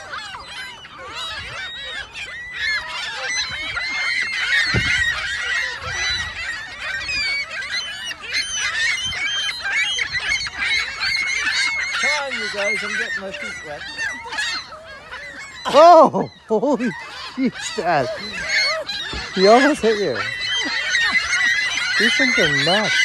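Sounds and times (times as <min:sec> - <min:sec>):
flock of birds squawking: 0:00.0 - 0:23.0.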